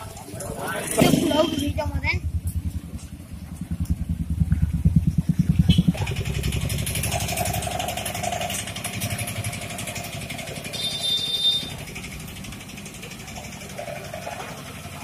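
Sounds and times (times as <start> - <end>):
motorcycle engine passing: 0.0 - 15.0.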